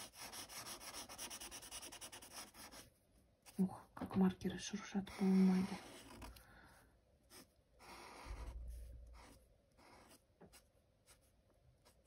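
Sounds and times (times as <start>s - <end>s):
marker rustling on paper: 0.0s - 3.7s, 5.0s - 6.4s, 7.3s - 12.0s.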